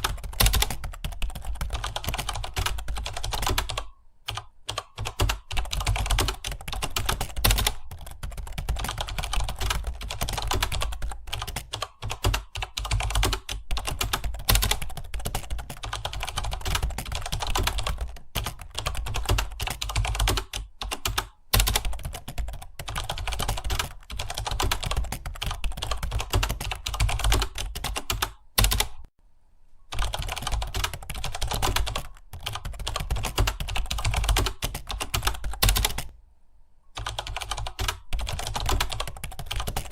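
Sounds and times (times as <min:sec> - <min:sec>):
fast typing on keyboard: 0:00.0 - 0:29.1, 0:29.9 - 0:36.1, 0:37.0 - 0:39.9.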